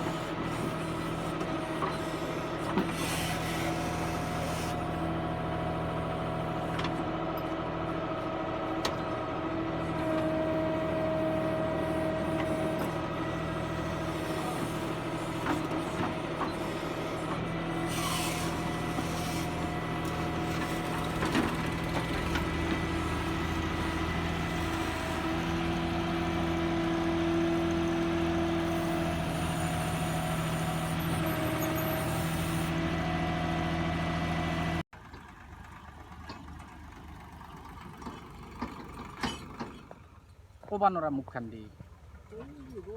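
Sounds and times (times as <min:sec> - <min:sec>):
diesel tractor engine running: 0:00.0 - 0:40.6.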